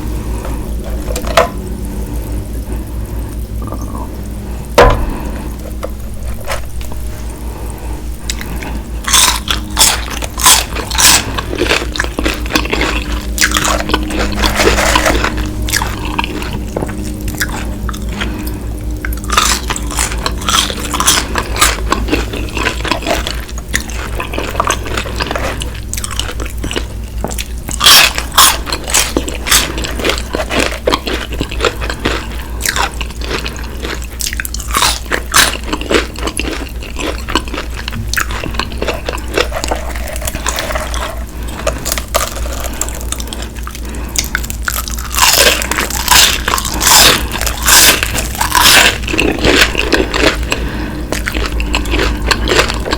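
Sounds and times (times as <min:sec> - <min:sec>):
crunching fried chicken: 0:00.0 - 0:52.9.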